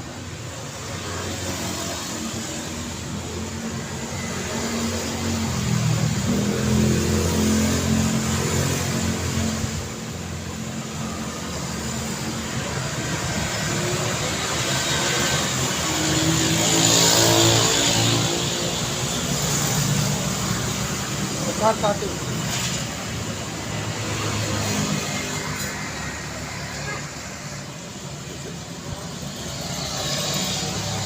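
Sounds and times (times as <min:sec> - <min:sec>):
engines running nearby: 0:00.0 - 0:31.0
tyre and road noise: 0:00.0 - 0:31.0.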